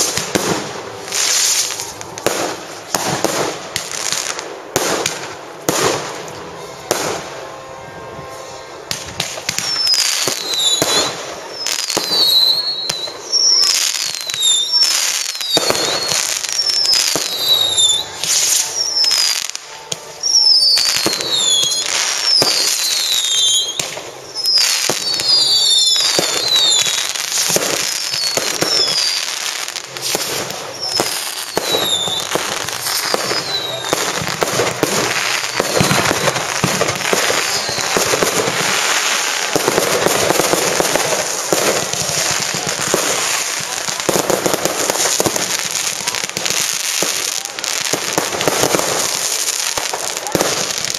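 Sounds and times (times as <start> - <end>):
fireworks bangs and crackles: 0.0 - 50.9
falling firework whistles: 8.9 - 50.9.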